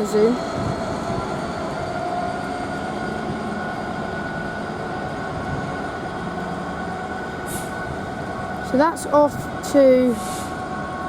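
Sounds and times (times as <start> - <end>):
diesel locomotive engine drone: 0.0 - 11.0
rail rumble: 0.0 - 11.0.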